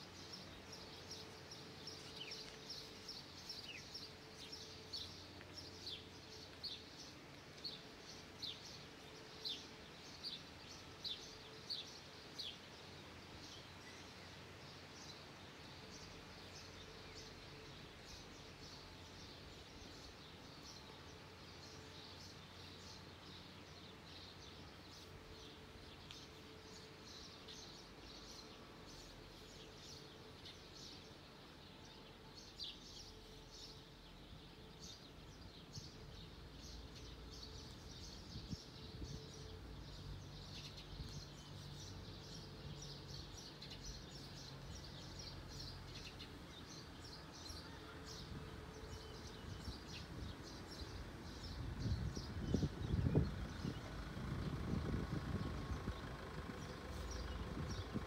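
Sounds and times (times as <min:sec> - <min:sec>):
faint outdoor background noise: 0:00.0 - 0:58.0
small birds chirping: 0:00.0 - 0:58.0.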